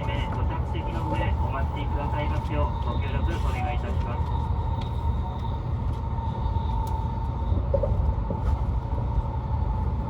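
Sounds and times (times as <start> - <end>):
train cabin low rumble: 0.0 - 10.0
faint even whine: 0.8 - 10.0.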